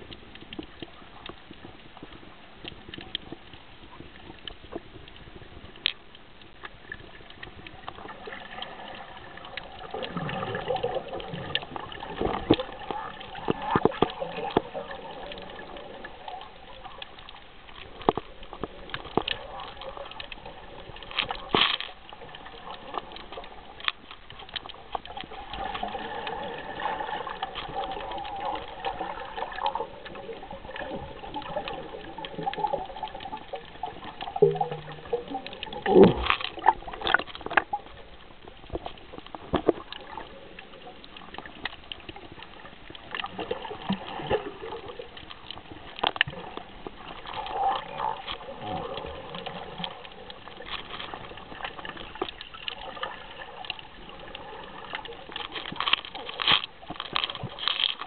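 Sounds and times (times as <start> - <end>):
water sloshing and bubbling: 0.0 - 58.0.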